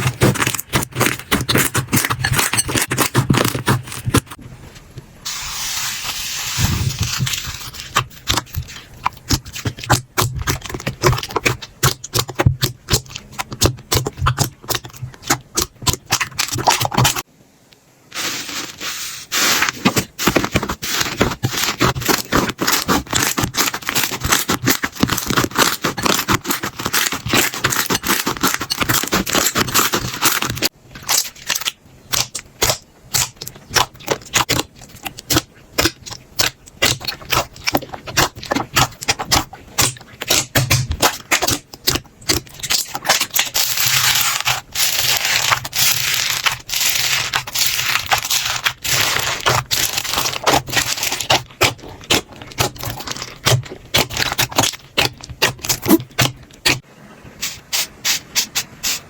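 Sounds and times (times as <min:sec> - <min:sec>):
slime crackling and popping: 0:06.8 - 0:17.3, 0:19.8 - 0:56.8.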